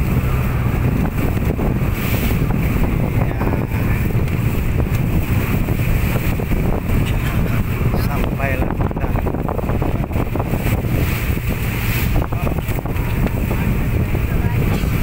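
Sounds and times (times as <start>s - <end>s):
motor boat rumble: 0.0s - 15.0s
water rushing past hull: 0.0s - 15.0s
wind buffeting microphone: 0.0s - 15.0s.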